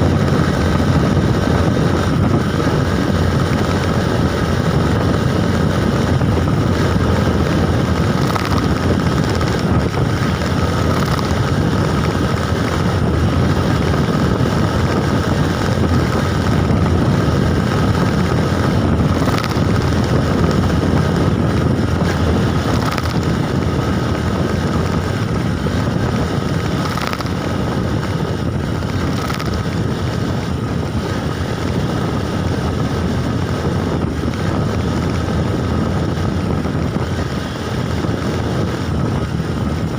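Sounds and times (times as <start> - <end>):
faint steady whine: 0.0 - 39.9
road noise from moving bike: 0.0 - 39.9
wind rushing on microphone: 0.0 - 39.9.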